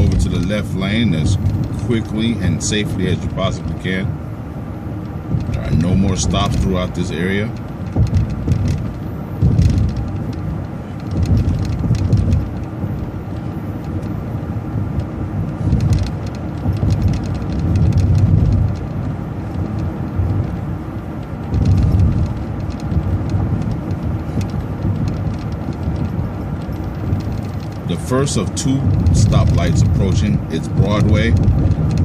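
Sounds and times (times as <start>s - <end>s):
bus road and engine rumble: 0.0s - 32.0s
light rattles: 4.9s - 32.0s.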